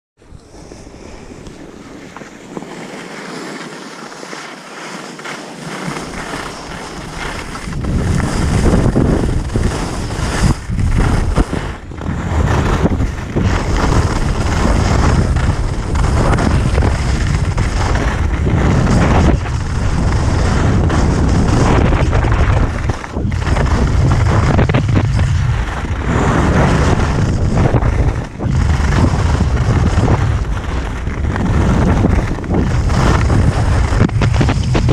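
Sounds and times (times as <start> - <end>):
wind buffeting microphone: 5.9 - 34.9.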